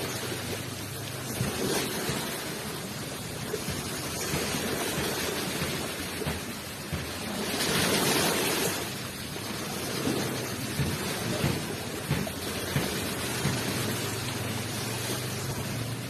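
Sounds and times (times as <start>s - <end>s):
waves rushing onto shore: 0.0s - 16.0s.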